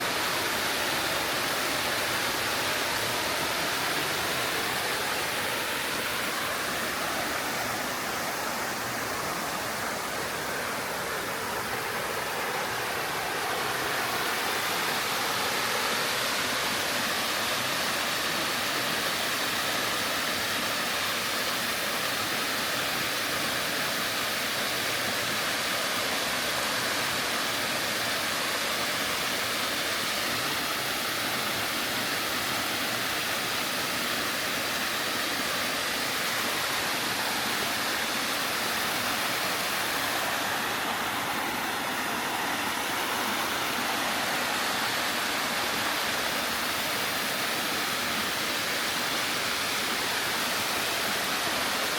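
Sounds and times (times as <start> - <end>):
stream cascading over rock: 0.0 - 51.9.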